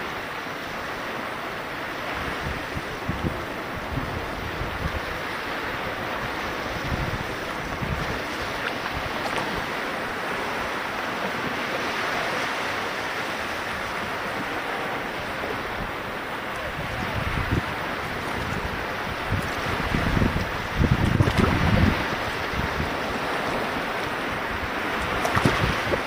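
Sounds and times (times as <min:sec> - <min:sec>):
small waves washing on shore: 0:00.0 - 0:26.0
wind buffeting microphone: 0:02.0 - 0:26.0.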